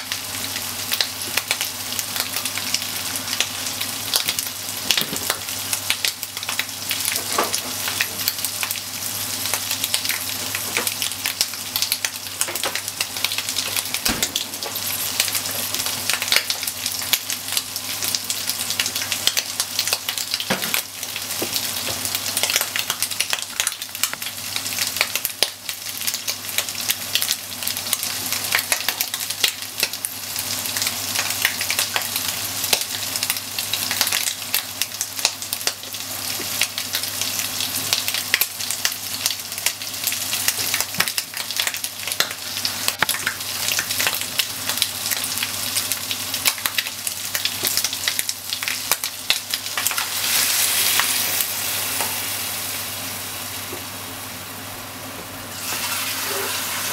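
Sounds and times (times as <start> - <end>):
onion and bacon sizzling in pan: 0.0 - 56.9
sharp popping of frying: 0.0 - 56.9
milk hissing in hot pan: 7.9 - 54.4, 55.4 - 56.9.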